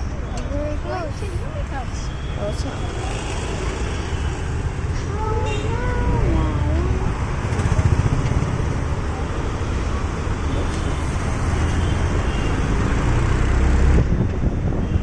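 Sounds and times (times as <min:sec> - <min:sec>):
engine rumble: 0:00.0 - 0:14.4
road noise: 0:00.0 - 0:15.0.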